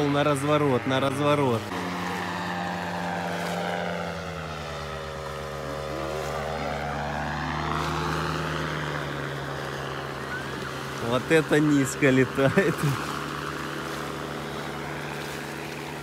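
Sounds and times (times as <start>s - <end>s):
paramotor engine and propeller drone: 0.0s - 16.0s.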